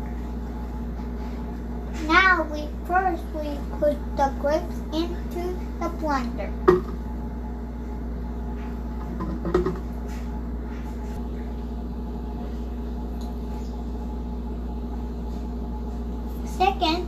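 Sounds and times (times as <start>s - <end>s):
appliance hum: 0.0s - 17.0s.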